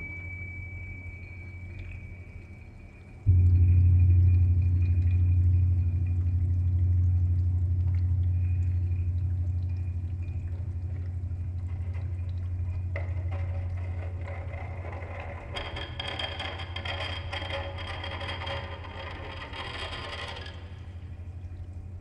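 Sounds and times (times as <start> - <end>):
loud steady low hum: 0.0 - 22.0.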